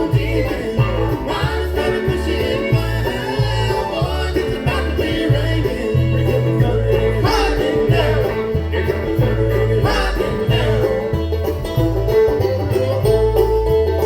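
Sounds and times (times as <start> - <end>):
banjo rolls: 0.0 - 14.0
guitar and strings: 0.0 - 14.0
upright bass line: 0.0 - 14.0.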